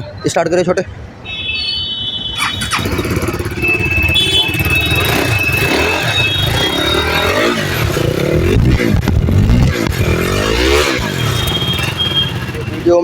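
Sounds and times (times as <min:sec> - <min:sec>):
motorcycle engine running: 0:02.4 - 0:13.0.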